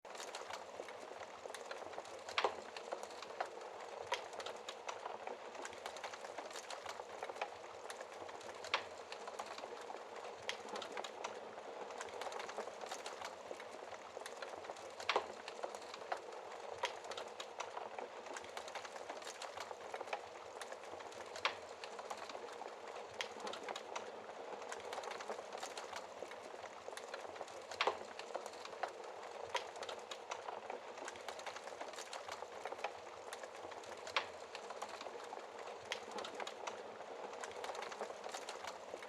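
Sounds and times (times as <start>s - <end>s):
wood fire crackling: 0.1s - 39.0s.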